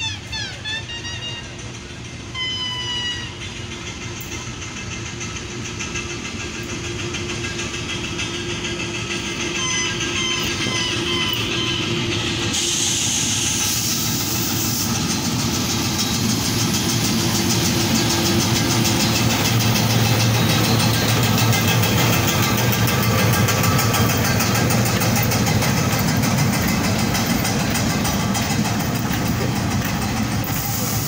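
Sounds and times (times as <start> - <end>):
diesel locomotive engine drone: 0.0 - 31.0
train wheels clattering on rails: 1.0 - 31.0.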